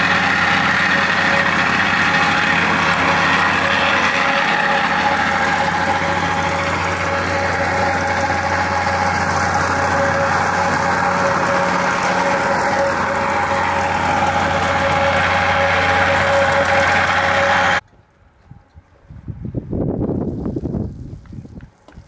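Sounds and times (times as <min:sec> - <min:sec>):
plate compactor engine running: 0:00.0 - 0:17.8.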